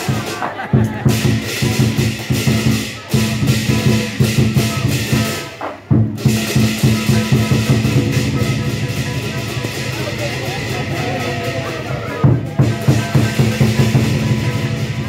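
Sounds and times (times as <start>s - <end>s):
rapid driving drumming: 0.0s - 15.0s.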